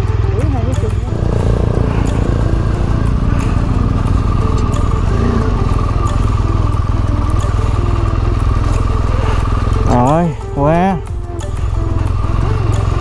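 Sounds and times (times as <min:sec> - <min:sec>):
motorcycle engine running: 0:00.8 - 0:13.0.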